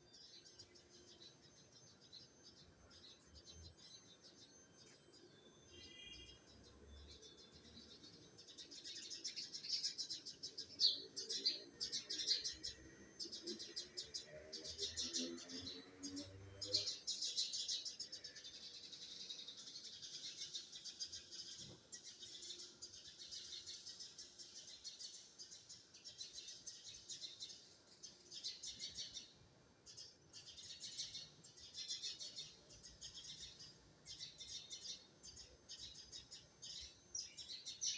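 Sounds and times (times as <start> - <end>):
small bird chirping: 0.0 - 37.9.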